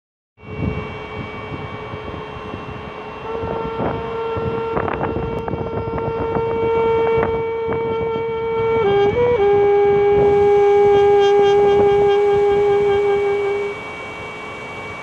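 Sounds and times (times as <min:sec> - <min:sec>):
train whine: 0:00.4 - 0:15.0
trumpet long note: 0:00.4 - 0:15.0.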